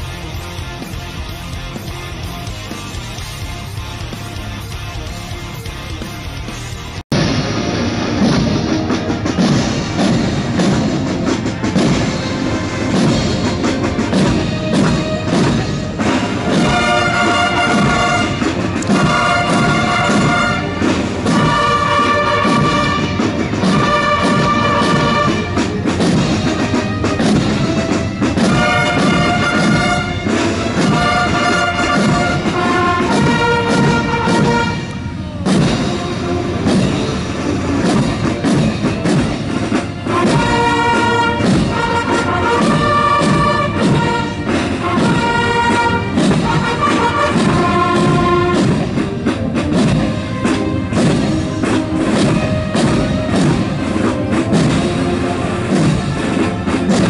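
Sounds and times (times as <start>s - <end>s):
brass band march: 0.0s - 57.0s.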